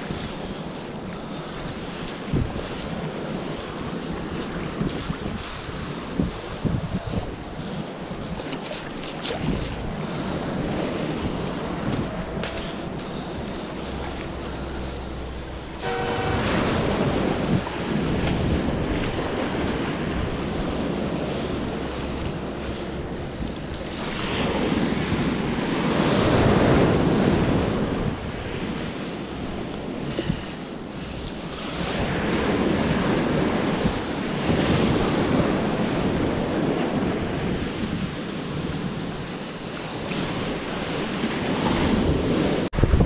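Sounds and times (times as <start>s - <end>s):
surf washing in shallow water: 0.0s - 43.0s
wind buffeting microphone: 0.0s - 43.0s.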